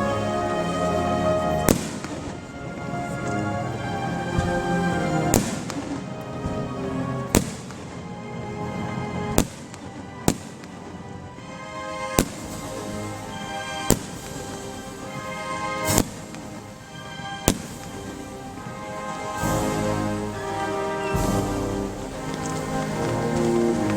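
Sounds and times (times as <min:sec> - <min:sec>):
music: 0:00.0 - 0:23.9
fireworks bangs: 0:01.4 - 0:03.4, 0:04.3 - 0:08.0, 0:09.3 - 0:11.0, 0:12.0 - 0:23.9.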